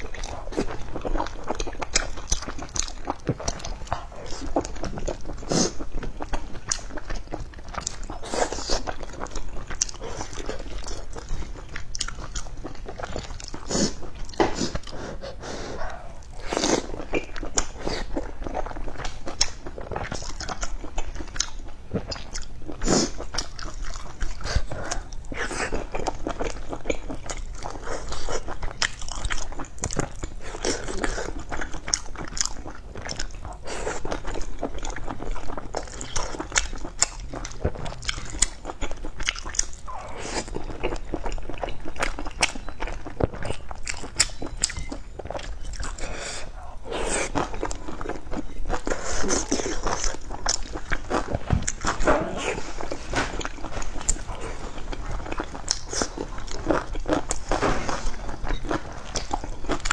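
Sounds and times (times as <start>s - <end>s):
crunchy biting and chewing: 0.0s - 59.9s.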